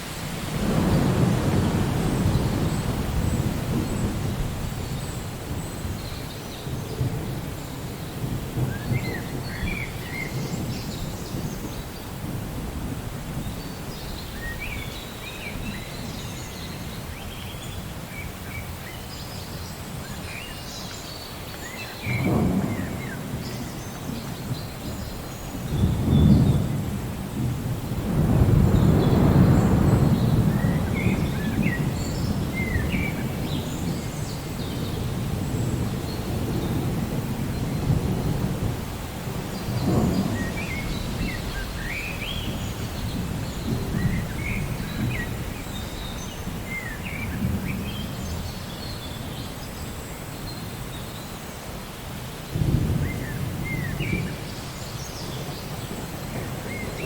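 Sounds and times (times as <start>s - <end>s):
thunder rumbling: 0.0s - 14.6s, 22.0s - 50.0s, 52.5s - 57.0s.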